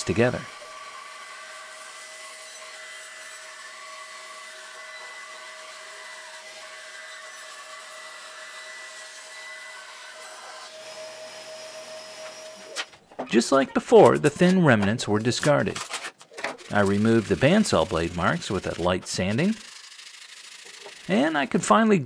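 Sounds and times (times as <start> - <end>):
bandsaw cutting wood: 0.0 - 12.9, 14.0 - 21.6.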